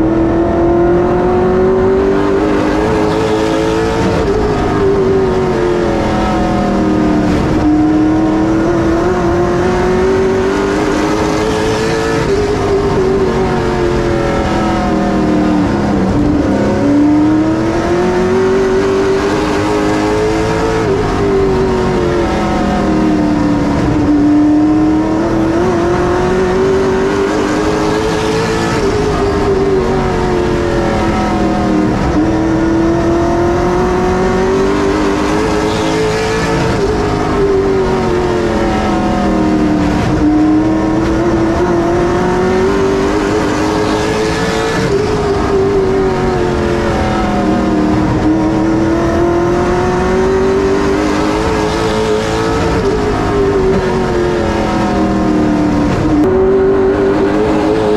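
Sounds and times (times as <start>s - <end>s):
racing car engine: 0.0s - 57.9s.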